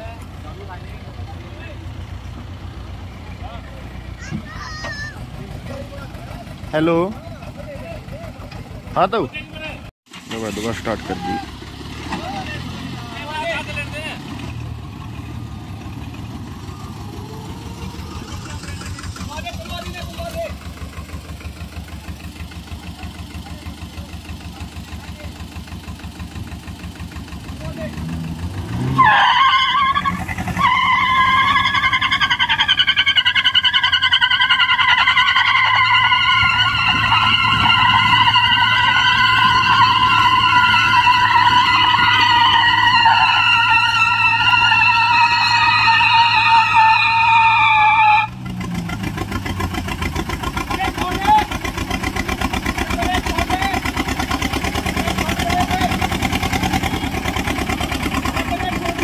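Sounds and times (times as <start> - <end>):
tractor diesel engine under load: 0.0 - 59.0
tyres screeching on asphalt: 0.0 - 59.0.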